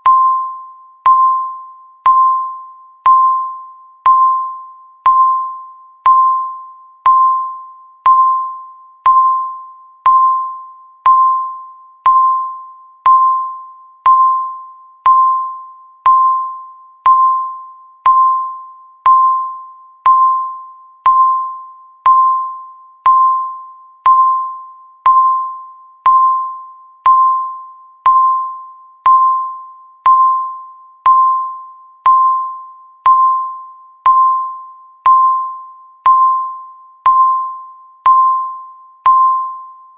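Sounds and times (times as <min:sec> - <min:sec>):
countdown timer beeping: 0:00.0 - 0:39.7.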